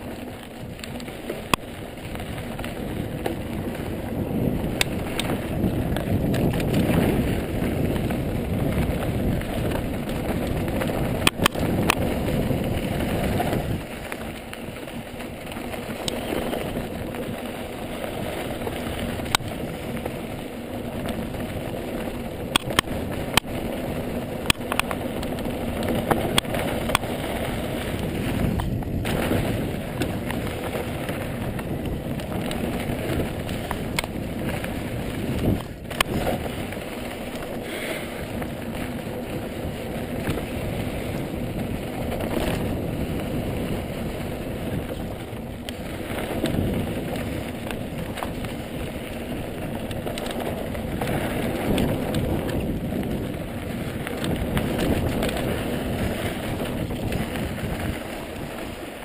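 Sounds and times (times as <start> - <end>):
bike rattling over bumps: 0.0 - 59.0
tyre rumble on dirt: 0.0 - 59.0
wind on microphone: 0.0 - 59.0.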